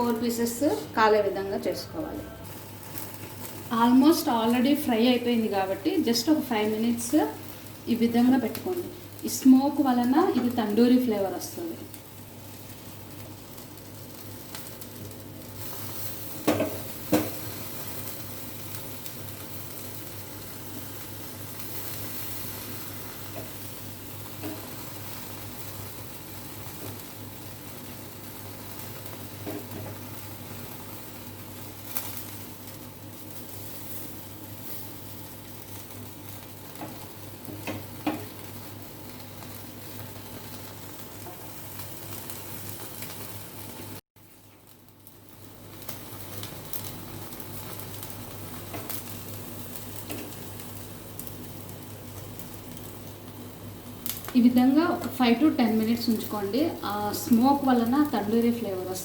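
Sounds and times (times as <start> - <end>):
chicken sizzling in a hot pan: 2.4 - 59.0.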